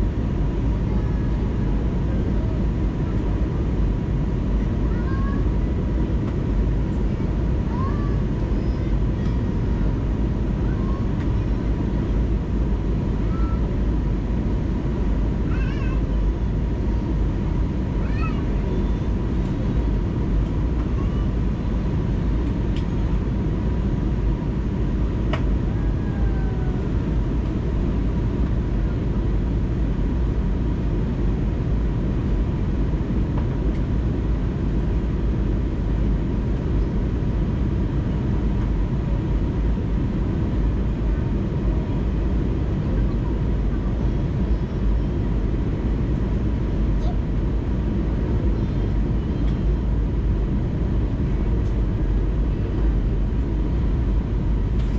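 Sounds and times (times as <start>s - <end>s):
airplane cabin engine rumble: 0.0s - 54.9s
faint high hum: 0.0s - 54.9s.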